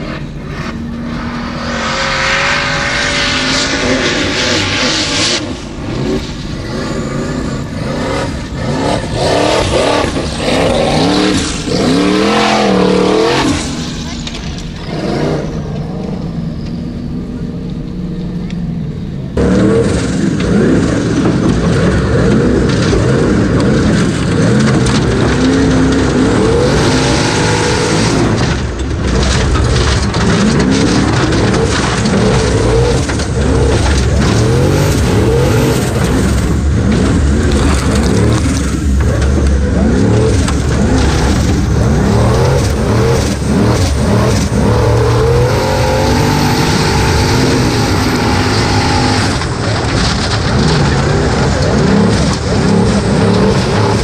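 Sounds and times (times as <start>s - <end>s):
racing buggy engine revving: 0.0s - 54.0s.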